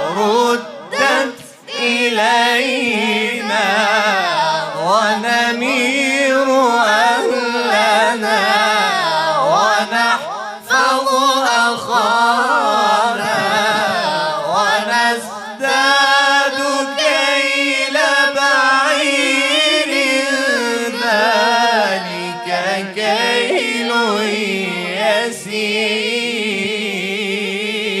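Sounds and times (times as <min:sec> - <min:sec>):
person reciting melodically: 0:00.0 - 0:28.0.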